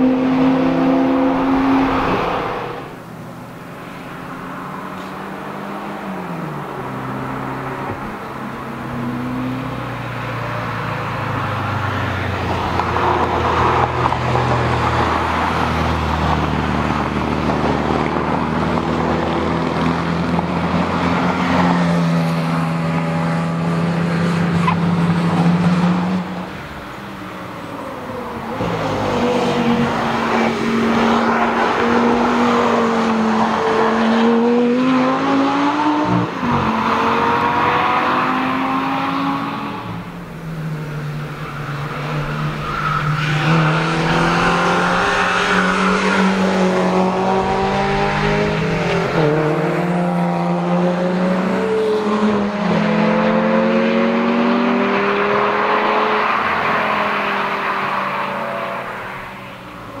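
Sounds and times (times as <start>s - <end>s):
race car engines revving past: 0.0s - 60.0s.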